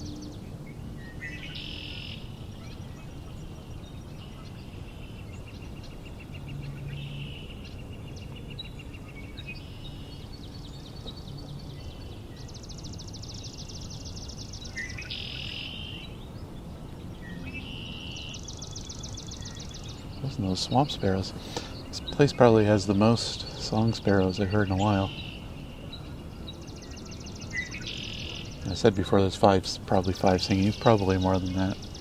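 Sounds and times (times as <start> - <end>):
low background noise: 0.0 - 32.0
songbirds singing: 0.0 - 32.0
ringing bird trills: 1.0 - 16.4, 17.1 - 32.0.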